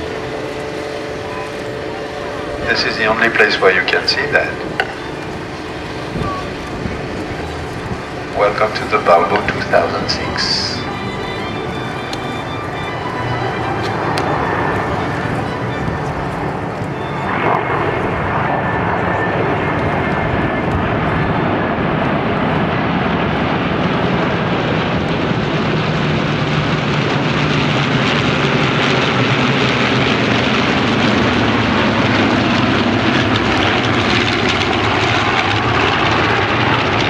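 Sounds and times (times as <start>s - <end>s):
propeller aircraft engines droning: 0.0s - 37.0s.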